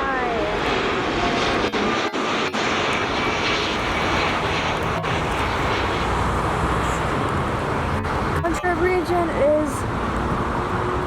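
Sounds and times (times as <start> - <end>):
faint jet whine: 0.0 - 11.0
jet engines roaring: 0.0 - 11.0.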